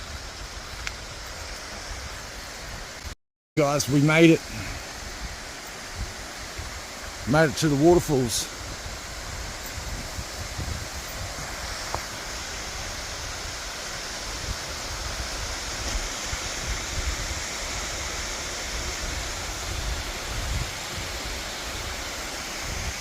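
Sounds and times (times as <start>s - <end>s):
waterfall rushing: 3.6s - 23.0s.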